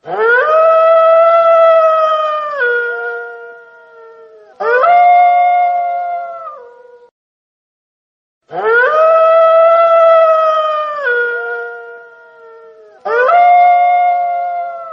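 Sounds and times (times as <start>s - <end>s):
wolf howling: 0.0s - 7.1s, 8.5s - 14.9s.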